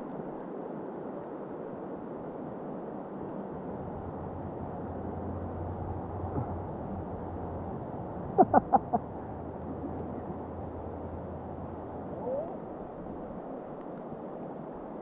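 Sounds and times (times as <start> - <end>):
river water rushing: 0.6 - 15.0.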